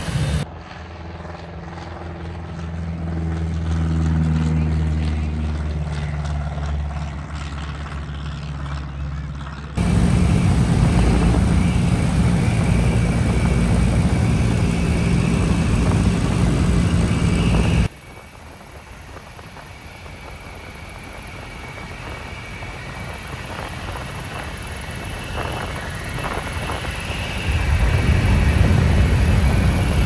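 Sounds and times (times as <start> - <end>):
cockpit engine and propeller noise: 0.0 - 30.0
light aircraft engine droning: 0.0 - 30.0.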